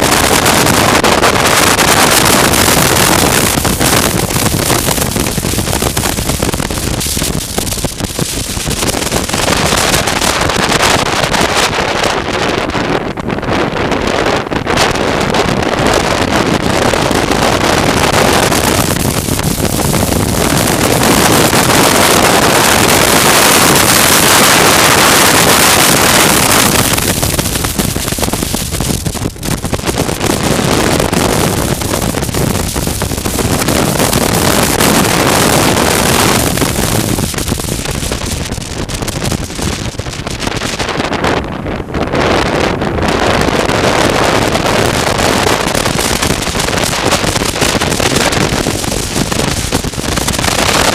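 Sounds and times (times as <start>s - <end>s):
motorcycle noise: 0.0s - 50.9s
wind rushing over microphone: 0.0s - 50.9s.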